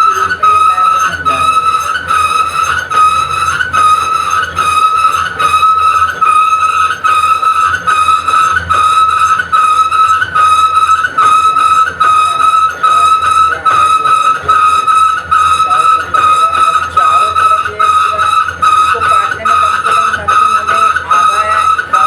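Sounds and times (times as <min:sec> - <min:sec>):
lathe tool squealing: 0:00.0 - 0:22.0.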